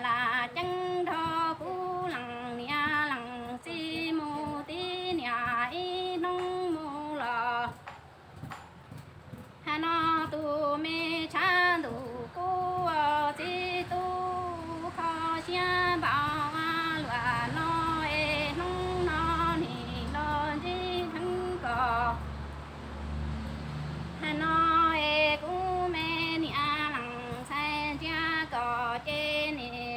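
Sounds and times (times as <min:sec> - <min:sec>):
woman singing unaccompanied: 0:00.0 - 0:29.9.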